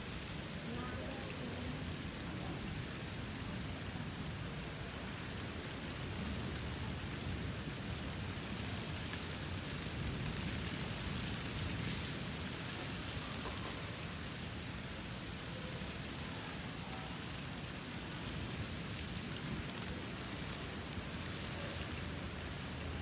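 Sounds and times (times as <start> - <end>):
light rain: 0.0 - 23.0.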